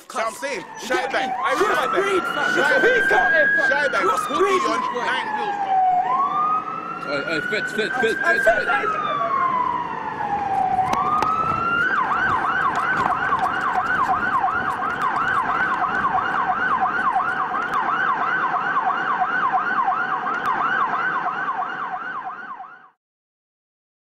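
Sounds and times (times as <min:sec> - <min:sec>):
emergency vehicle siren: 0:00.0 - 0:23.0.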